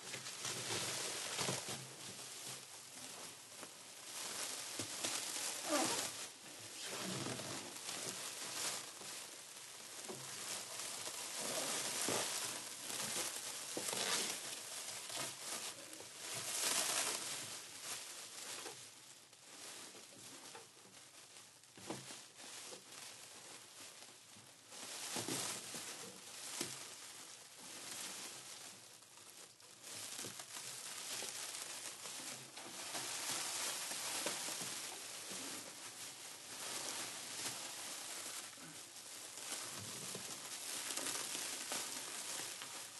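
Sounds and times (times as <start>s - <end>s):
plastic sheeting crinkling: 0.0s - 42.9s.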